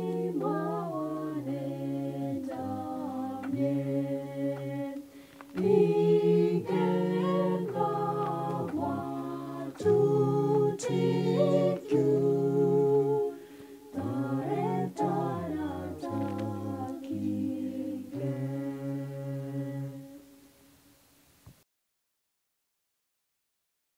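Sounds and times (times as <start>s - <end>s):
a cappella group singing hymn: 0.0s - 20.5s.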